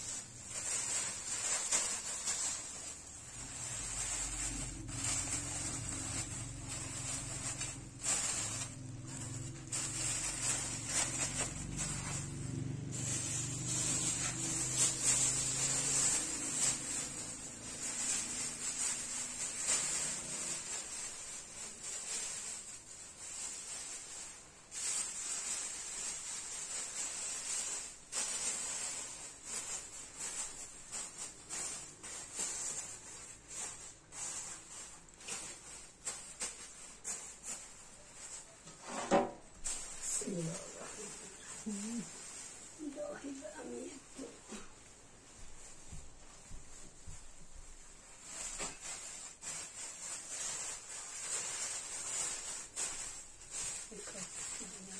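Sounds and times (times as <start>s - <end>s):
plastic sheet crinkling: 0.0s - 54.9s.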